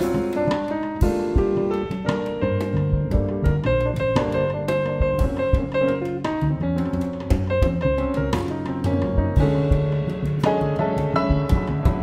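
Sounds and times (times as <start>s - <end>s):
jazz piano bass and drums: 0.0s - 12.0s.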